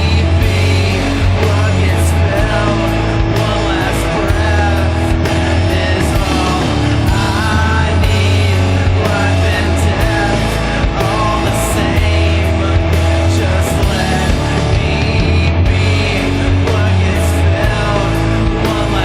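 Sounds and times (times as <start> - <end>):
distorted guitars and bass: 0.0 - 19.0
drums and cymbal hits: 0.0 - 19.0.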